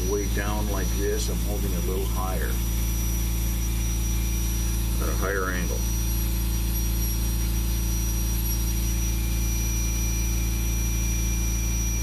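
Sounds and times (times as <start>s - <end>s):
rotary carving tool whining: 0.0s - 12.0s.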